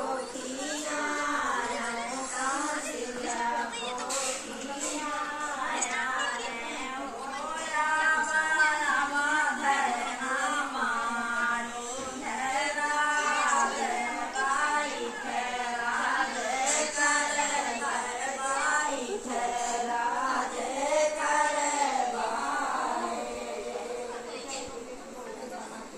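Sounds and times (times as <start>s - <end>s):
women singing folk song: 0.0s - 24.3s.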